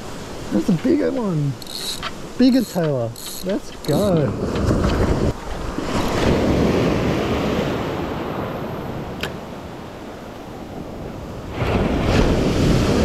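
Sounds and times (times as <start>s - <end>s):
small waves washing over sand: 0.0s - 13.0s.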